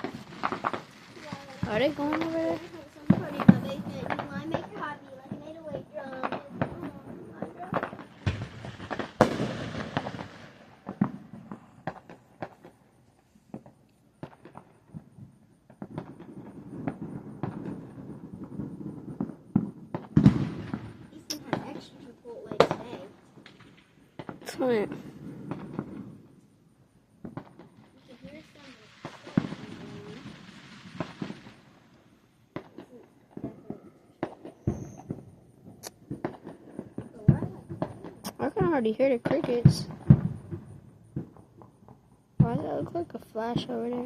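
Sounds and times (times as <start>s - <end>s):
loud firework bang: 0.0s - 12.7s, 15.8s - 26.3s, 27.2s - 31.8s, 32.5s - 41.7s
fireworks and firecrackers popping: 0.0s - 26.4s, 27.2s - 44.0s.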